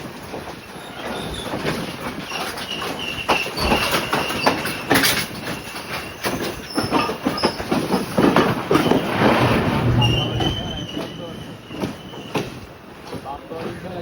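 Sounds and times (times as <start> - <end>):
train wheels clattering on rails: 0.0 - 14.0
high wheel squeals: 0.7 - 13.0.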